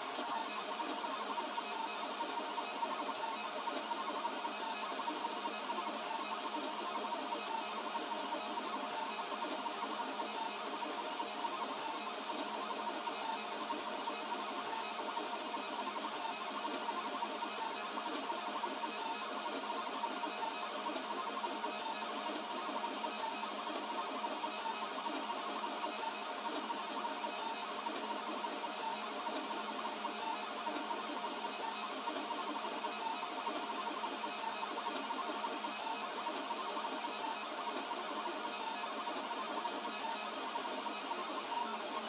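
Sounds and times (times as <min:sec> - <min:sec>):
three d printer stepper motors whirring: 0:00.0 - 0:42.0.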